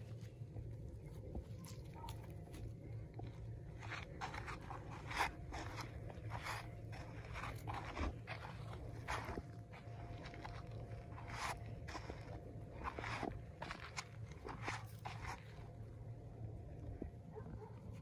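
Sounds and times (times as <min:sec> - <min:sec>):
footsteps on gravel: 0:00.0 - 0:16.0.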